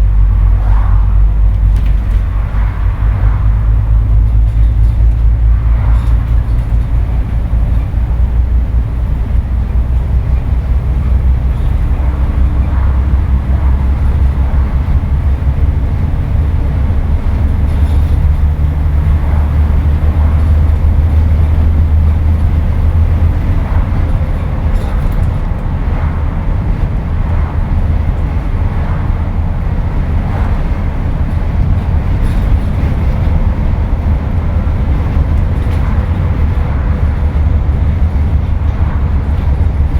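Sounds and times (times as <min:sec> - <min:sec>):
bus diesel engine drone: 0:00.0 - 0:39.9
light rattles: 0:00.0 - 0:39.9.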